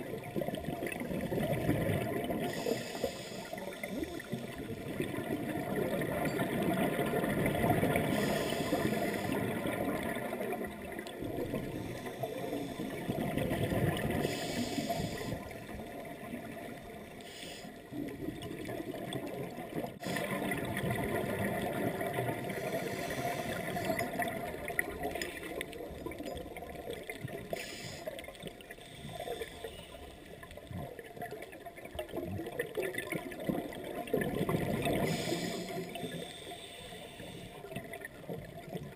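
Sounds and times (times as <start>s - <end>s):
underwater diver breathing bubbles: 0.0s - 26.2s, 32.5s - 38.1s.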